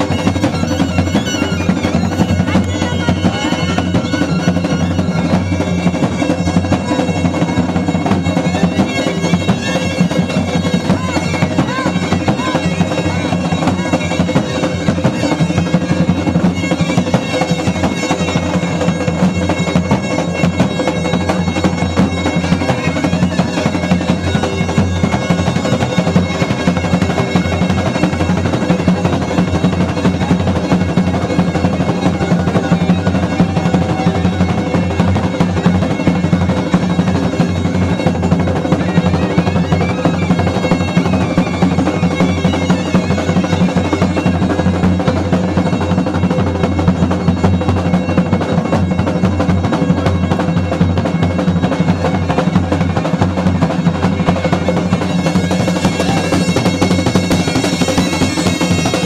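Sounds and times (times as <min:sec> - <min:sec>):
bagpipe-like drone: 0:00.0 - 0:59.0
drums keeping a steady beat: 0:00.0 - 0:59.0.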